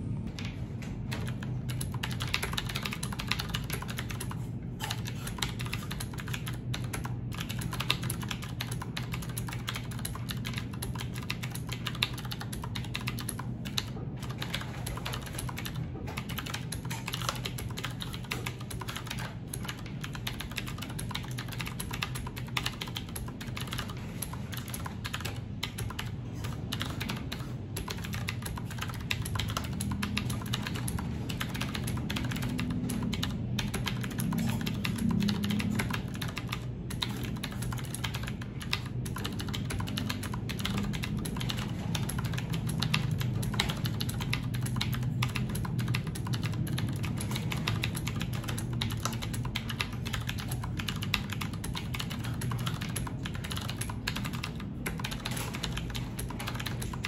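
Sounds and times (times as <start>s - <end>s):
mechanical keyboard typing: 0.2s - 57.0s.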